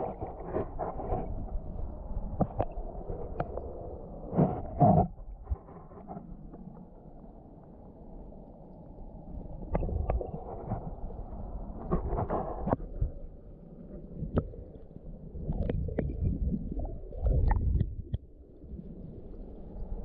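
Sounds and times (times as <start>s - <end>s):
muffled underwater water rumble: 0.0s - 20.0s.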